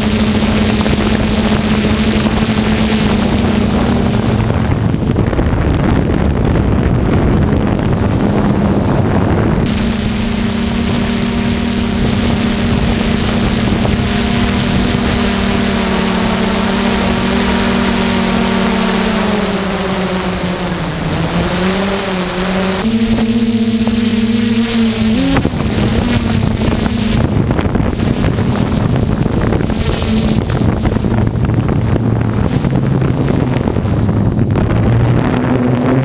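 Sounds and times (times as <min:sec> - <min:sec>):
drone motors and propellers humming: 0:00.0 - 0:36.0
wind noise on microphone: 0:00.0 - 0:36.0.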